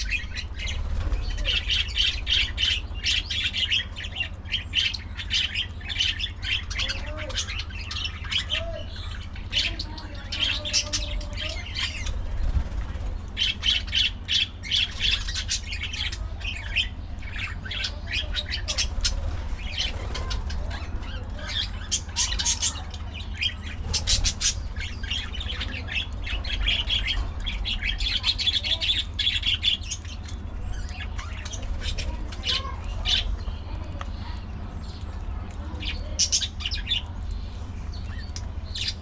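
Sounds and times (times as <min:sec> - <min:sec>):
budgerigars chirping: 0:00.0 - 0:35.0, 0:35.7 - 0:39.0
steady low hum: 0:00.0 - 0:39.0.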